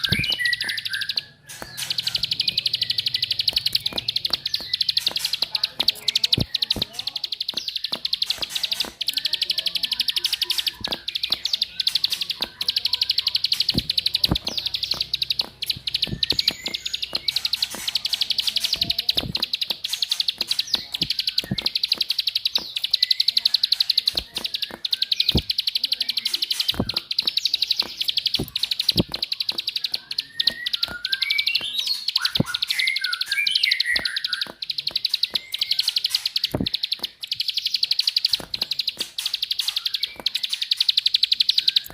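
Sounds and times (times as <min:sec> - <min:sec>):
bird clicking call: 0:00.0 - 0:41.9
bird warbled notes: 0:00.0 - 0:41.9.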